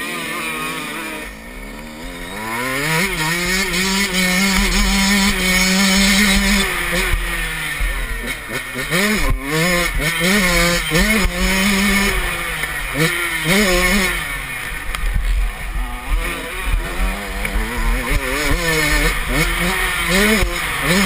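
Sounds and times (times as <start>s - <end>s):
motocross bike engine revving: 0.0s - 21.0s.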